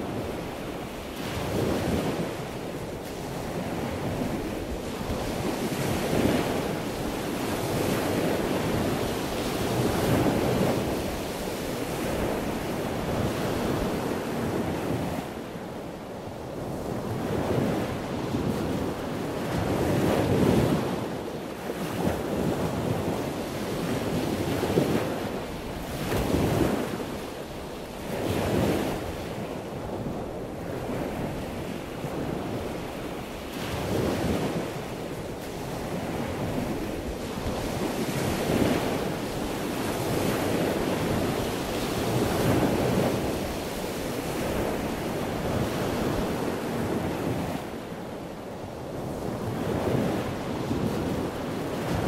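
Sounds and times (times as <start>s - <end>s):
surf washing in and out: 0.0s - 52.0s.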